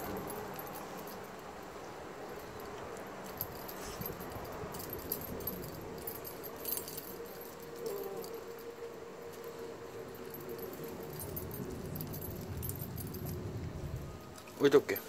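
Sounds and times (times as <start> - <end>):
collar metallic jingling: 0.0 - 15.0.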